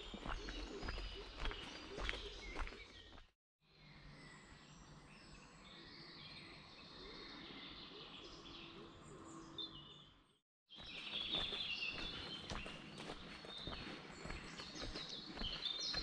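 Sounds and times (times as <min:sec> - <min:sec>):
faint birdsong chirps and trills: 0:00.0 - 0:16.0.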